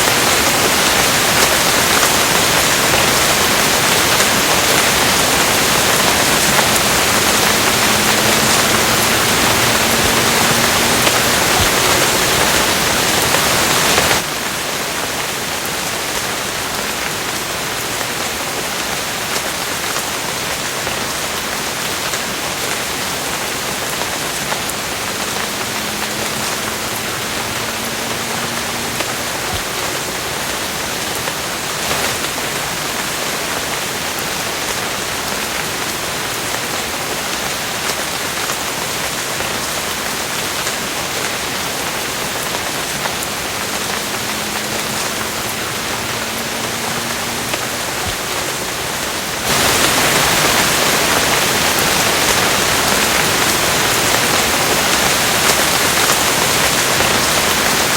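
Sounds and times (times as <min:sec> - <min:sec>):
steady rainfall: 0:00.0 - 0:57.9.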